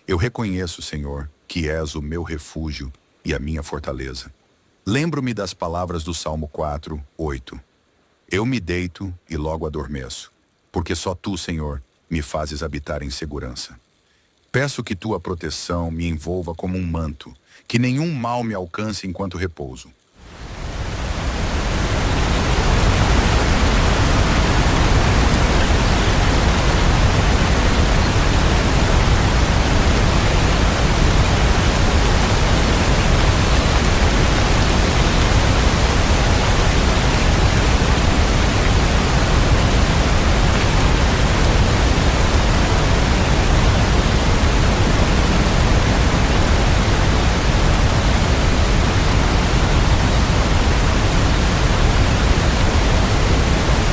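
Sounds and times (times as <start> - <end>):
steady hiss of rain: 0.0 - 53.9.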